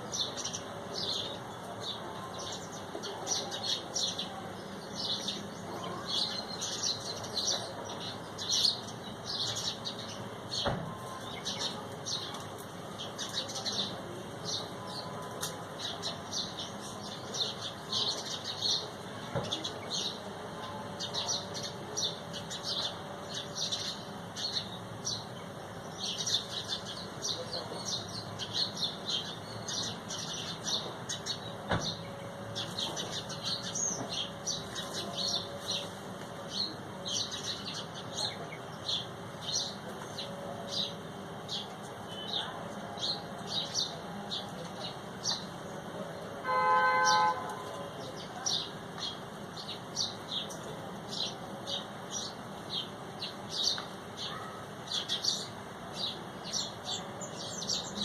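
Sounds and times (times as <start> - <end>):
small birds chirping: 0.0 - 20.3, 21.0 - 46.3, 47.0 - 58.0.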